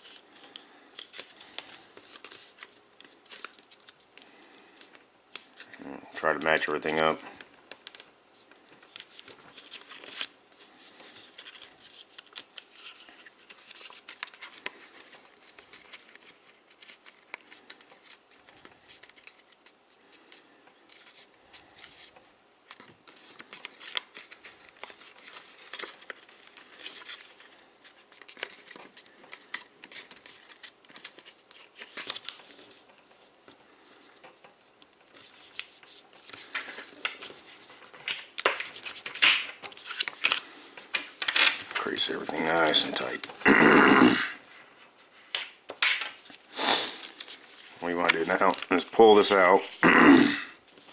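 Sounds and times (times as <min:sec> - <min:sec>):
paper rustling and crackling: 0:00.0 - 0:43.4, 0:44.4 - 0:49.8, 0:50.6 - 0:50.9.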